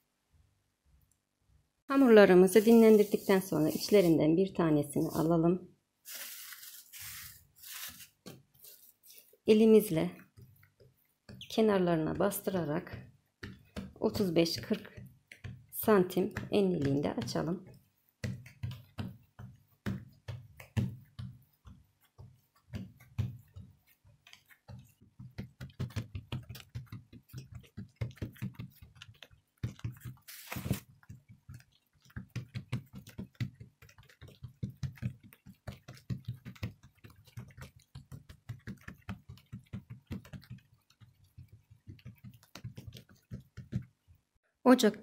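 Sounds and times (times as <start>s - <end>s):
fingertips patting dough: 7.6s - 44.4s.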